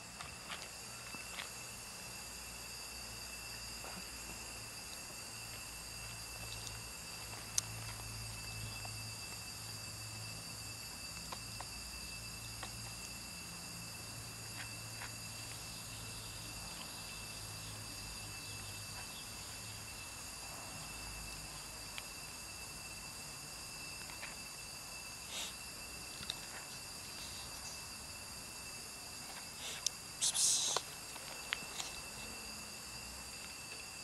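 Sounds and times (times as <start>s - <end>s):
insect chirring: 0.0s - 34.0s.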